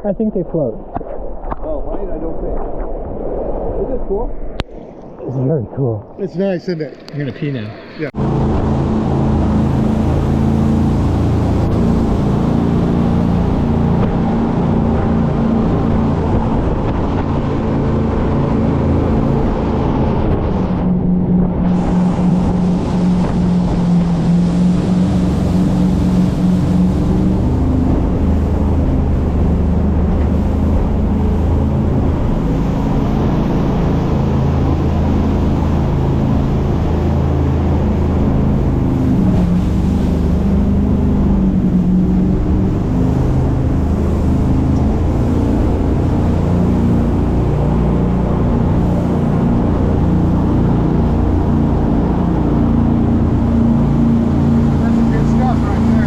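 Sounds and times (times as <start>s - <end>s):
water rushing: 0.0s - 56.0s
wind: 0.0s - 56.0s
motorboat engine running: 5.4s - 56.0s.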